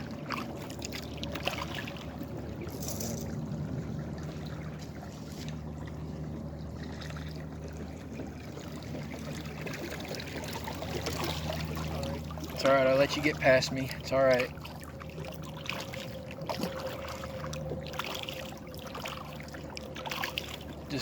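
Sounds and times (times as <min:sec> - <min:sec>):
steady low hum: 0:00.0 - 0:21.0
water trickling and lapping: 0:00.0 - 0:21.0.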